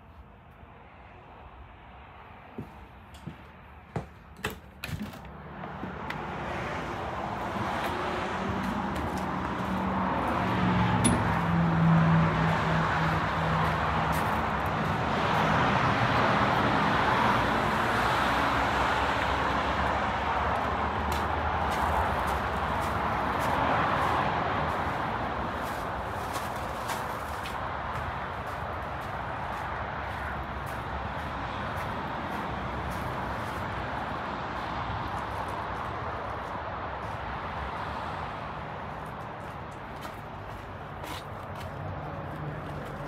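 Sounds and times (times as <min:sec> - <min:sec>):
road traffic noise: 0:00.0 - 0:43.0
vehicle engine low hum: 0:02.5 - 0:37.8.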